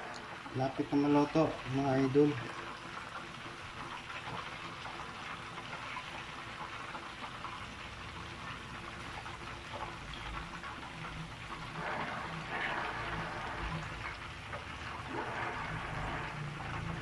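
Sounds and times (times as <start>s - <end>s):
oil sizzling and crackling: 0.0s - 17.0s.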